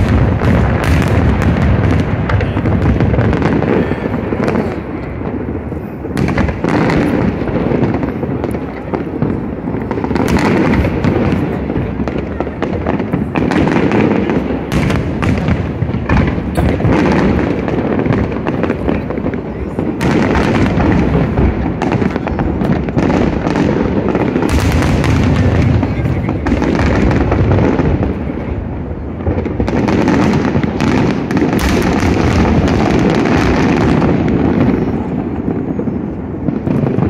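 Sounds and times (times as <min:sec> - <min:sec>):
fireworks booming: 0:00.0 - 0:37.0
fireworks cracks and pops: 0:00.0 - 0:37.0.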